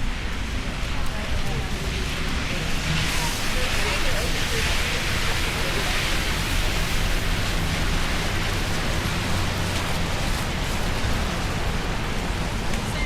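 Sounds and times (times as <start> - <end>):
falling rain hiss: 0.0 - 13.0.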